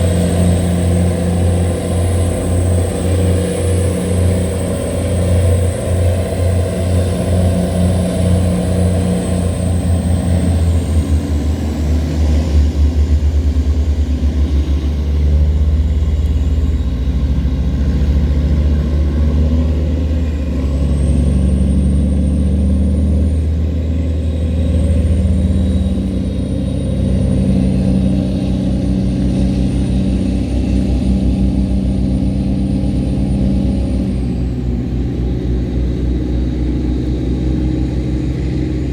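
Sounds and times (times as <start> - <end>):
diesel engines throbbing: 0.0 - 38.9.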